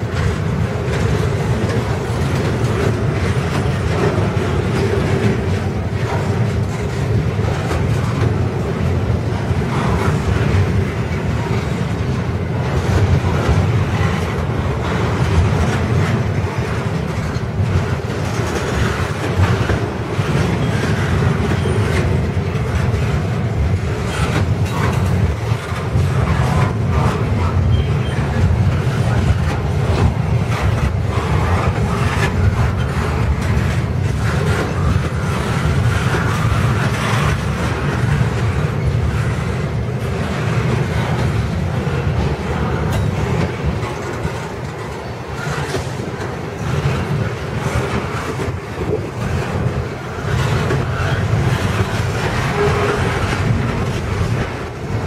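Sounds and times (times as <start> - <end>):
rail clacks: 0.0 - 55.0
train wheels rumbling on rails: 0.0 - 55.0.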